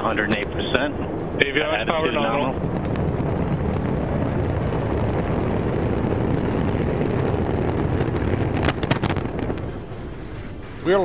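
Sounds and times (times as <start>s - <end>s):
deep steady explosion rumble: 0.0s - 11.0s.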